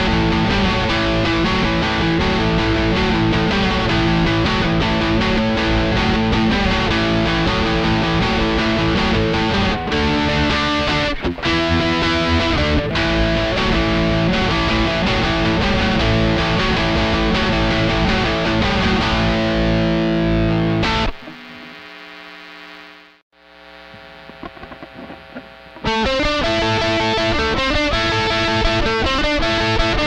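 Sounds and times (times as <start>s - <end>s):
distorted electric guitar riff: 0.0s - 30.0s.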